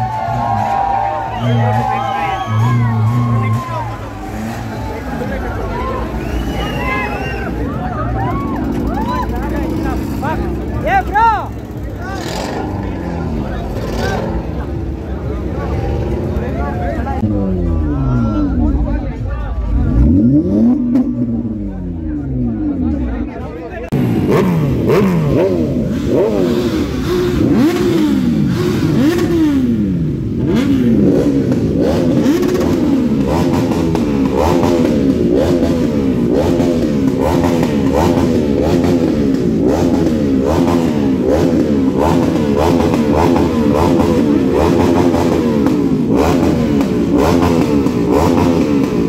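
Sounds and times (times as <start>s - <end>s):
motorcycle engines revving: 0.0s - 49.0s.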